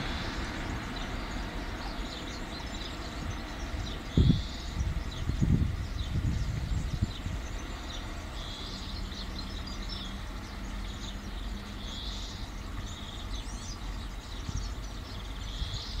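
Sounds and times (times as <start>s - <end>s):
low steady rumble: 0.0s - 16.0s
swallows twittering: 0.0s - 16.0s.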